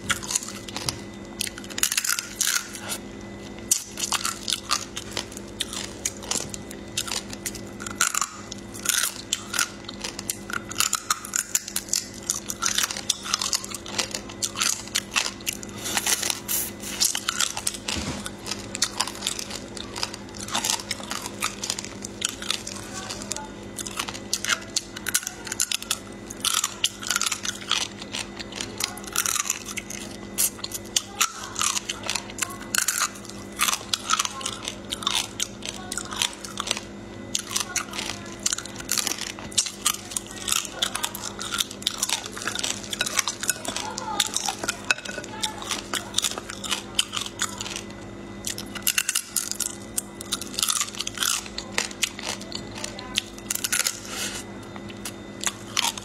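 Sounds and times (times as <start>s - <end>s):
crab shell crunching: 0.0s - 56.0s.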